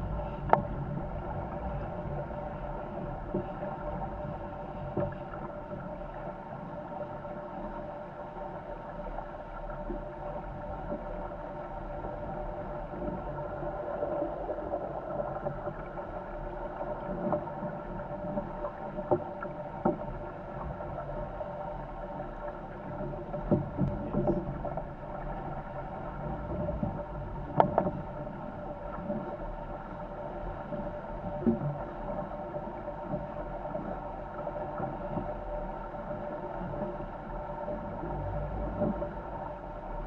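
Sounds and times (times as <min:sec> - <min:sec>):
water and wind rushing along hull: 0:00.0 - 0:40.0.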